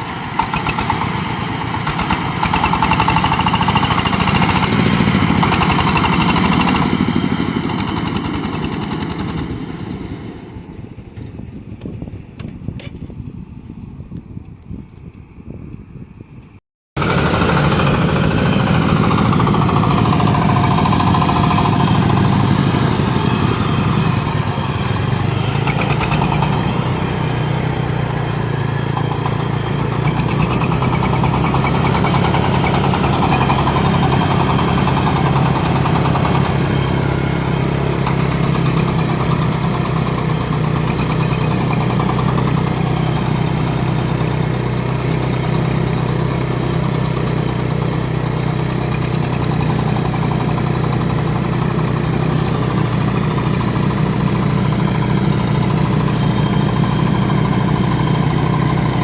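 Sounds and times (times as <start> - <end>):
machine engine running: 0.0 - 10.9, 17.0 - 59.0.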